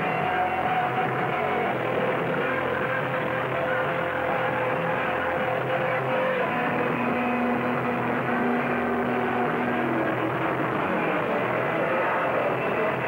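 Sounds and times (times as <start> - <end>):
punk metal band playing live: 0.0 - 13.0.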